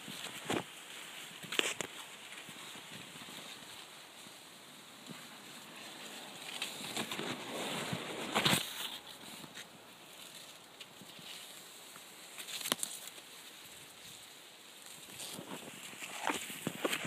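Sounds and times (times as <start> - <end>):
maize leaves rustling: 0.0 - 17.0.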